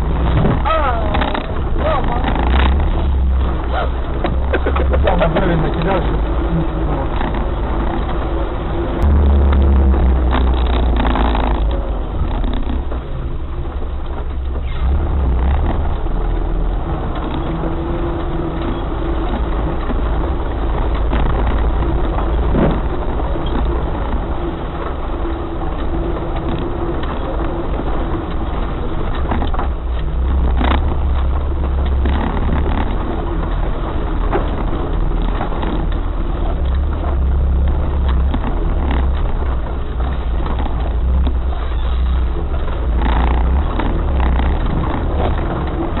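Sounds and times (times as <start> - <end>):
off-road vehicle engine rumble: 0.0 - 46.0.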